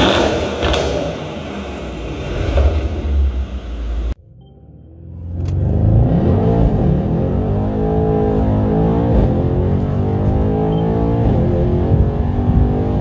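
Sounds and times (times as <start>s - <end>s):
car engine accelerating hard: 0.0s - 4.2s, 5.1s - 13.0s.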